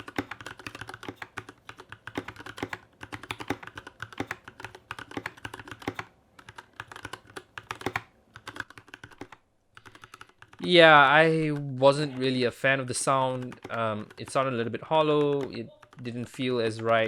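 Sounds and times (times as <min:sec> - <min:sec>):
keyboard typing: 0:00.0 - 0:17.0.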